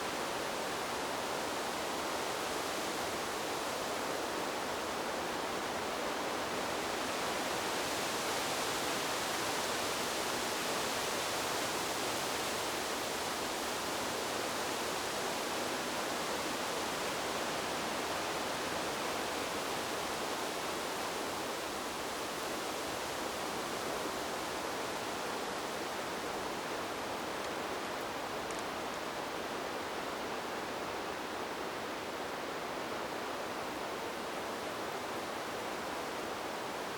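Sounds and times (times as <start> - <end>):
wind through bamboo: 0.0 - 36.9.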